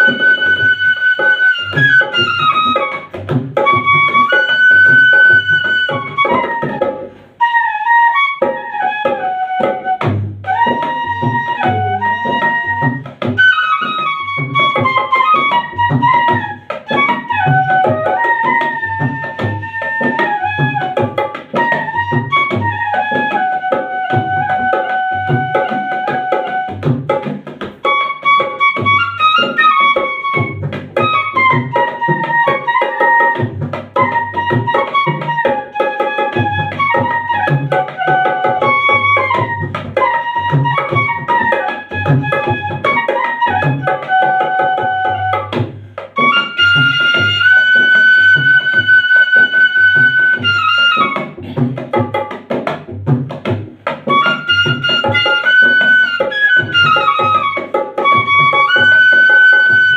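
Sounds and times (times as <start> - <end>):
bamboo flute melody: 0.0 - 51.6, 54.0 - 59.9
hand drum rhythm: 0.0 - 59.9.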